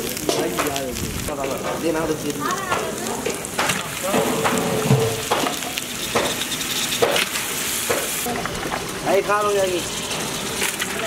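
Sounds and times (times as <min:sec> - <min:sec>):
gravy sizzling: 0:00.0 - 0:11.0.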